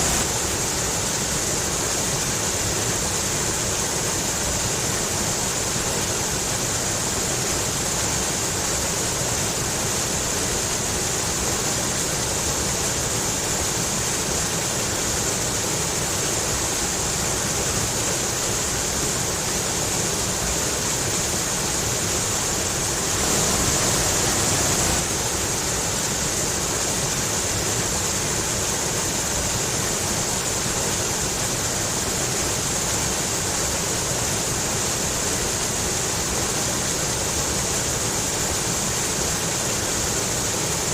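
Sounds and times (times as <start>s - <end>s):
stream water rushing over rocks: 0.0s - 40.9s.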